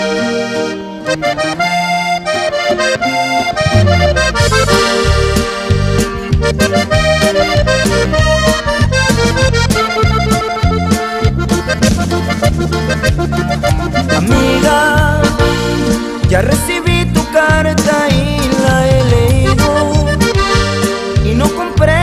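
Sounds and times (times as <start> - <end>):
button accordion melody: 0.0 - 22.0
bass line with steady beat: 3.4 - 22.0.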